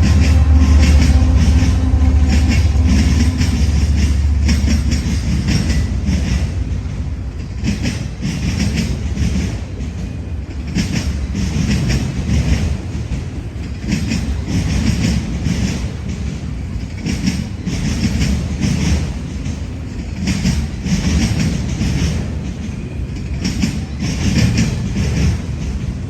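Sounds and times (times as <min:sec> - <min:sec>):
train cars rumbling: 0:00.0 - 0:26.0.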